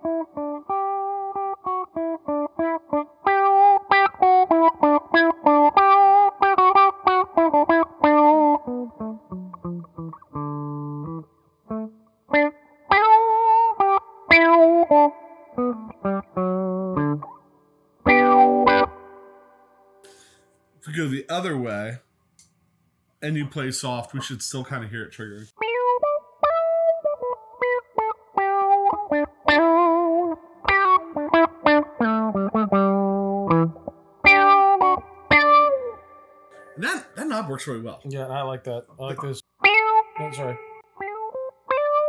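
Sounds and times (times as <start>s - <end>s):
electric guitar with envelope filter: 0.0s - 20.4s, 25.6s - 36.8s, 39.6s - 42.0s.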